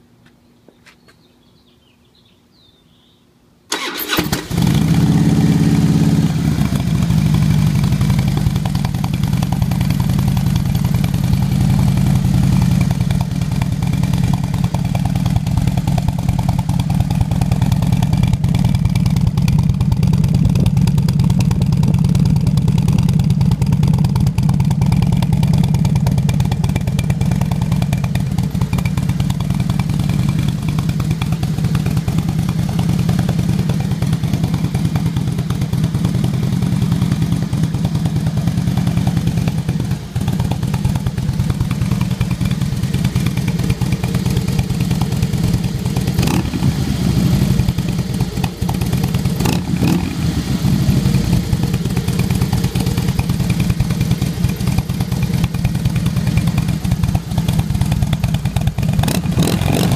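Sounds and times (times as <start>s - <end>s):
motorcycle engine starting and idling: 3.7s - 59.9s.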